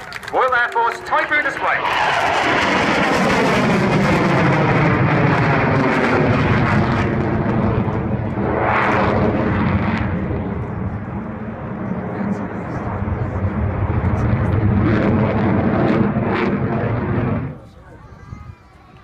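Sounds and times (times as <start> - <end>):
fighter jet passing: 0.0 - 18.1.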